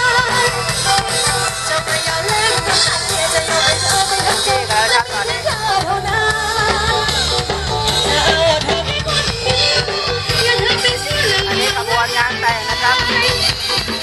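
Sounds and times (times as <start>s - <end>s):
loud music with singing: 0.0s - 14.0s.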